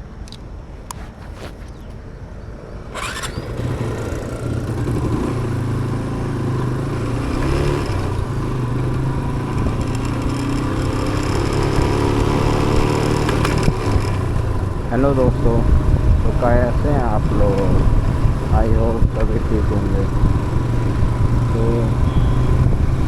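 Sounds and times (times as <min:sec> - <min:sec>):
wind and road noise: 0:00.0 - 0:23.0
motorcycle engine running: 0:03.0 - 0:23.0.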